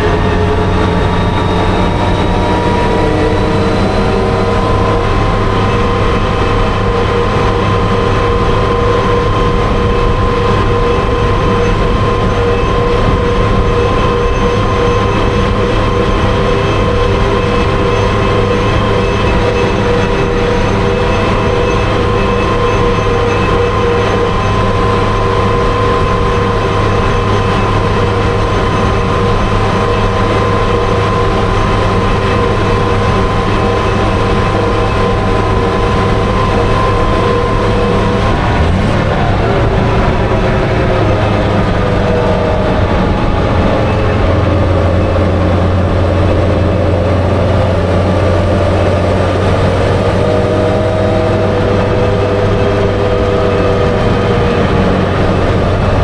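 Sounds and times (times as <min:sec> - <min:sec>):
armoured car engine whine and rumble: 0:00.0 - 0:56.0.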